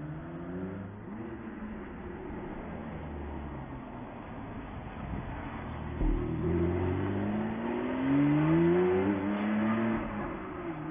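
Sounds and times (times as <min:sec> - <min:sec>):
car engine accelerating: 0:00.0 - 0:10.9.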